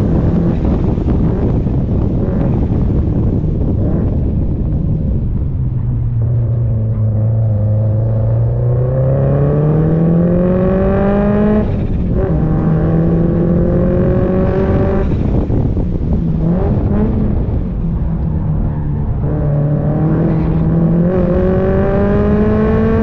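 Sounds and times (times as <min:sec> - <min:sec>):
car engine accelerating hard: 0:00.0 - 0:23.0
wind noise: 0:00.0 - 0:23.0.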